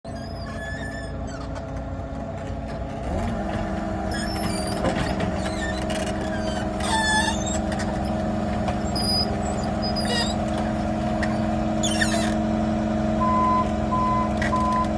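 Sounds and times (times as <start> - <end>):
paver engine running: 0.1 - 14.9.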